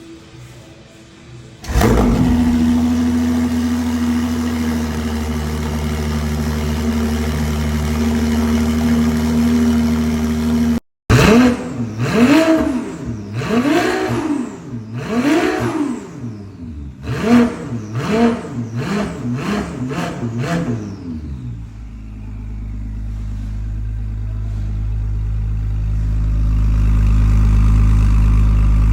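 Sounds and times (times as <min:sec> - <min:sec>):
car engine revving: 0:01.6 - 0:28.9
car engine starting and idling: 0:01.6 - 0:28.9.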